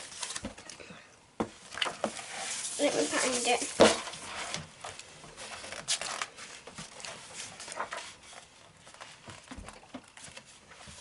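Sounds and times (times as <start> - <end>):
book pages rustling: 0.0 - 0.7, 1.5 - 11.0.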